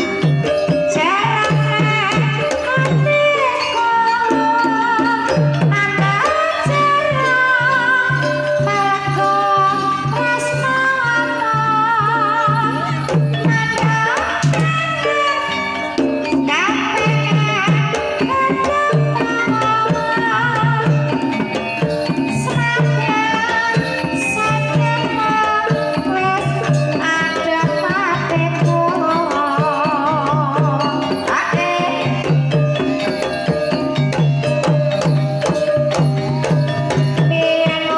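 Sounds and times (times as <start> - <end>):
ringing gamelan tones: 0.0 - 37.9
wavering melodic voice: 0.0 - 37.9.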